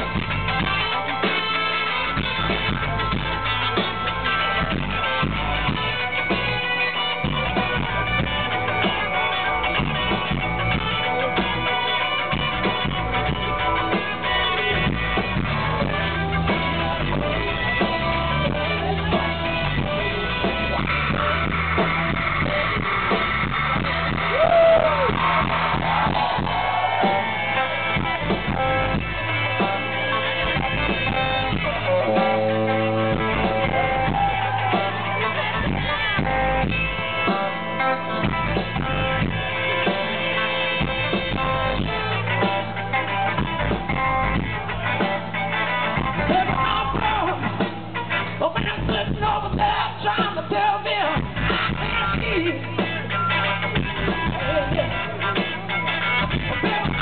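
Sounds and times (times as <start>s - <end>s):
electric guitar bent notes: 0.0s - 49.2s, 51.2s - 57.0s
bass: 0.0s - 57.0s
live blues-rock band: 0.0s - 57.0s.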